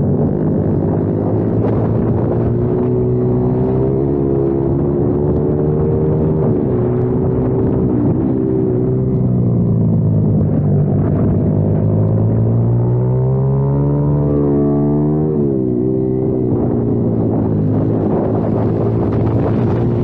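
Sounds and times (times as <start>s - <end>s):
motorbike engine running hard: 0.0s - 20.0s.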